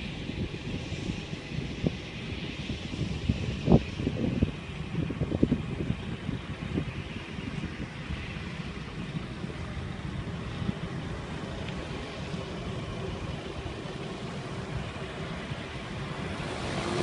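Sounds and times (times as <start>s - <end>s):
light aircraft propeller engine drone: 0.0s - 17.0s.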